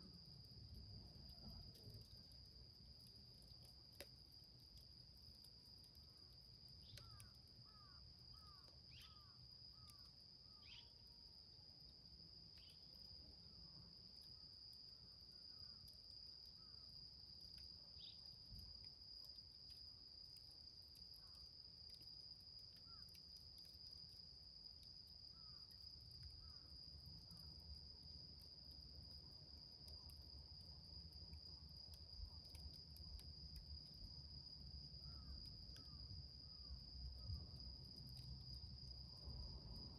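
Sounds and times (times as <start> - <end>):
faint ticks: 0.0 - 39.9
high-pitched insect trill: 0.0 - 39.9.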